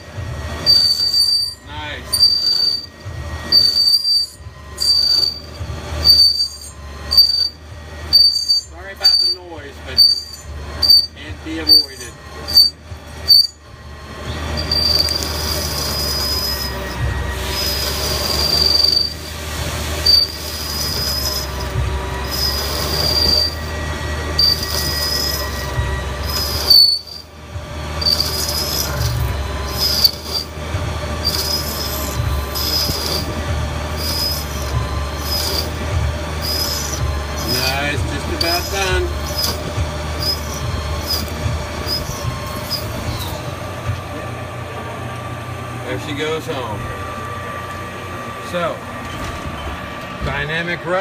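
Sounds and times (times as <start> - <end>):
lathe humming: 0.0 - 51.0
lathe tool squealing: 0.0 - 51.0.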